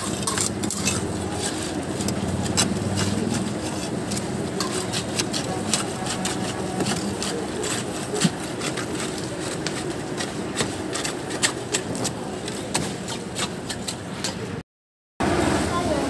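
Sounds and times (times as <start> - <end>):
diesel engine running: 0.0 - 14.6, 15.2 - 16.0
shovels scraping wet concrete: 0.0 - 14.6.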